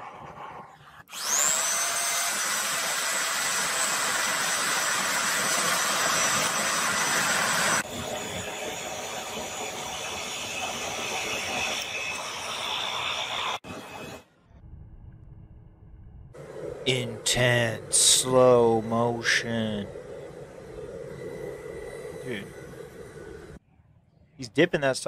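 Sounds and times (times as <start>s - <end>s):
forge blower hissing and whining: 1.0s - 14.3s, 16.4s - 23.6s.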